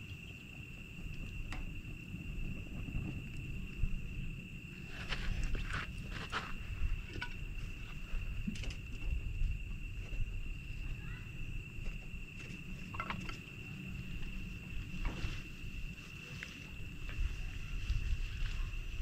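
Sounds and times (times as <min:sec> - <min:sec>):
high-pitched insect trill: 0:00.0 - 0:19.0
low rumble: 0:00.7 - 0:16.0.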